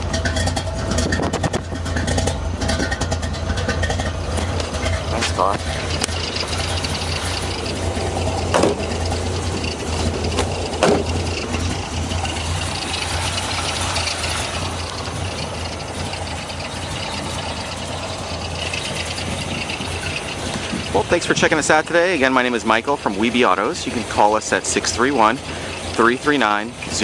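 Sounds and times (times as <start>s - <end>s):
engine idling through exhaust: 0.0s - 27.0s.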